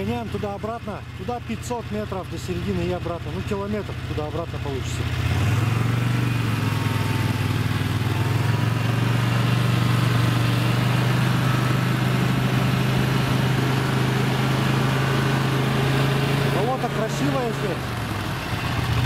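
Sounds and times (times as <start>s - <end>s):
snowmobile engine droning: 0.0s - 19.0s.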